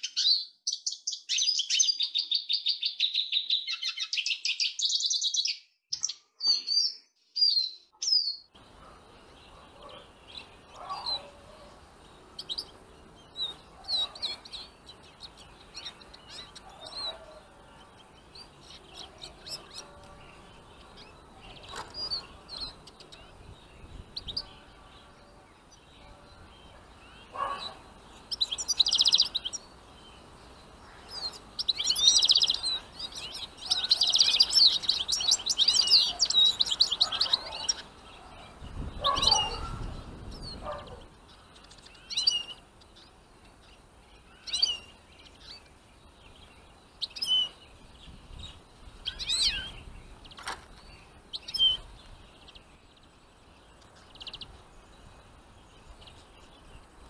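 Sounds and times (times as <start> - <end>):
small birds twittering: 0.0 - 57.0.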